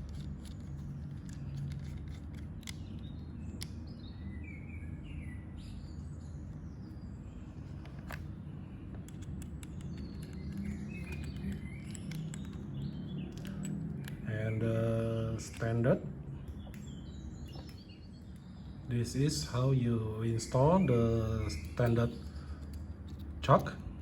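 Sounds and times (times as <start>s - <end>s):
steady low hum: 0.0s - 24.0s
birds chirping: 0.2s - 24.0s.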